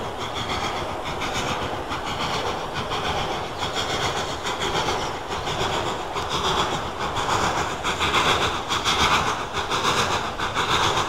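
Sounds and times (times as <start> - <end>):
steam train rumbling rhythmically: 0.0 - 11.0.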